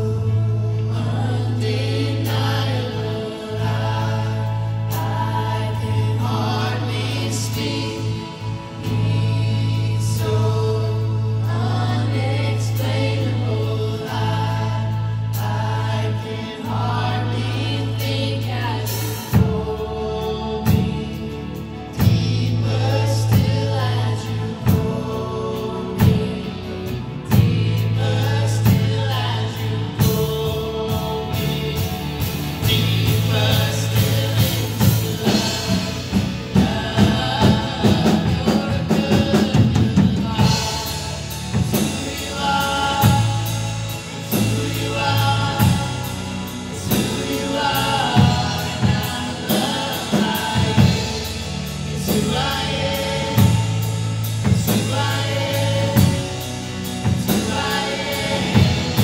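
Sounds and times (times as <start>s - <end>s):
singers: 0.0s - 59.0s
worship band playing: 0.0s - 59.0s.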